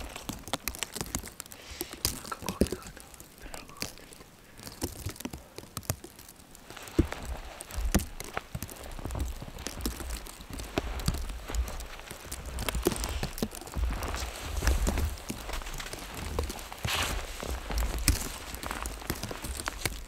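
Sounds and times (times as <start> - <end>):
footsteps crunching through snow: 0.0 - 20.0.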